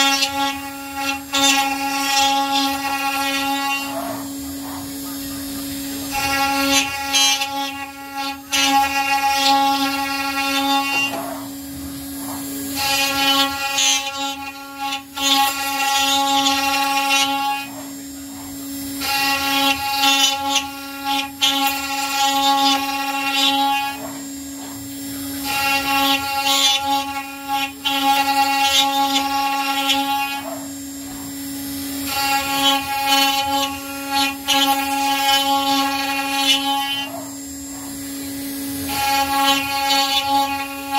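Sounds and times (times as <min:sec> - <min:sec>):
high-pitched cutting whine: 0:00.0 - 0:40.9
router spindle hum: 0:00.0 - 0:40.9.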